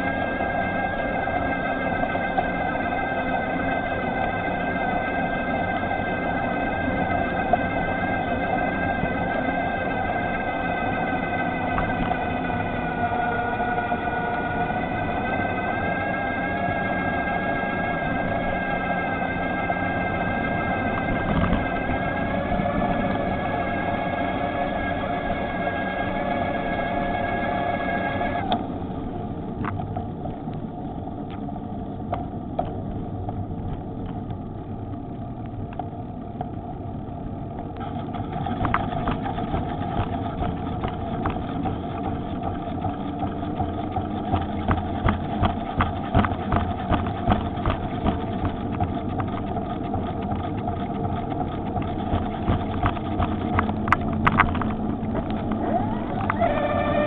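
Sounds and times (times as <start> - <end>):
electric bike motor whining: 0.0 - 57.0
road rumble: 0.0 - 57.0
wind: 0.0 - 57.0.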